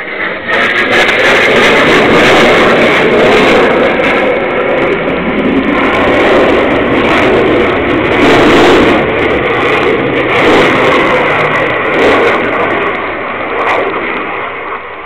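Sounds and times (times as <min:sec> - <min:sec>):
jet aircraft engines: 0:00.0 - 0:15.0.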